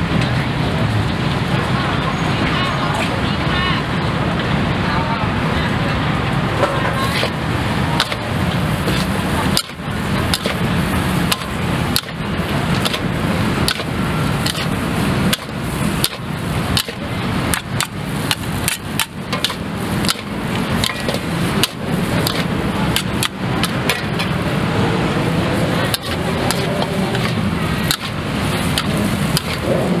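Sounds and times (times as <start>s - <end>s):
steady noisy background: 0.0s - 30.0s.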